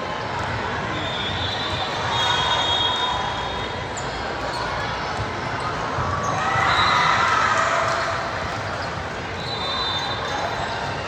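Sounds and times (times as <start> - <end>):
crowd voices overlapping: 0.0 - 11.0.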